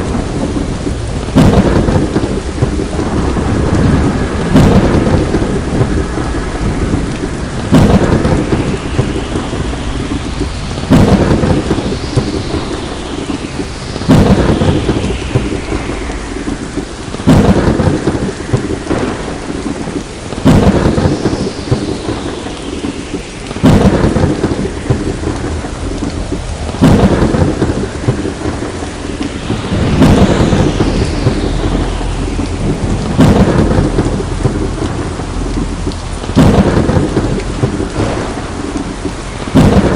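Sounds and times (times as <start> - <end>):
steady rain: 0.0 - 39.9
thunder claps: 0.0 - 39.9.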